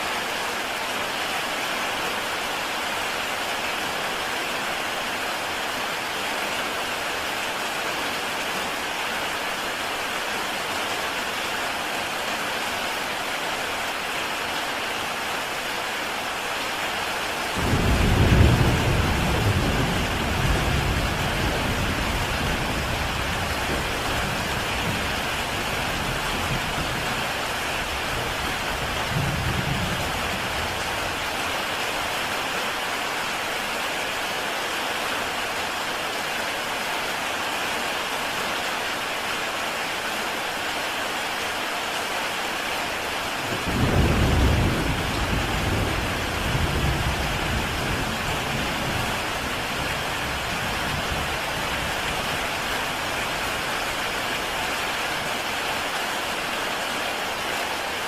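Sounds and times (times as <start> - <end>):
heavy rain on a tile roof: 0.0 - 58.0.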